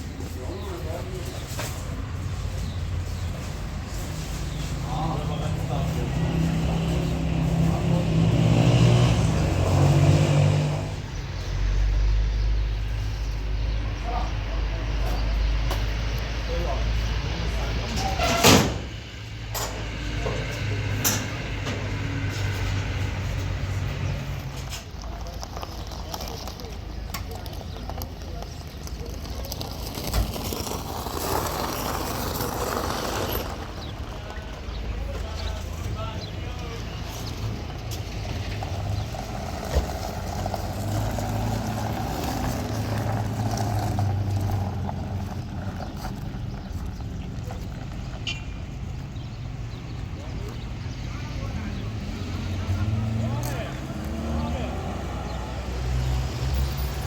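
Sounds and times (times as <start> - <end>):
car engine driving: 0.0 - 57.0.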